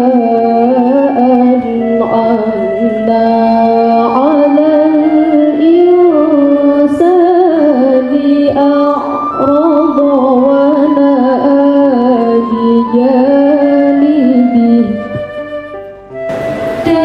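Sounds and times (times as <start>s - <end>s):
girl reciting melodically: 0.0s - 15.1s.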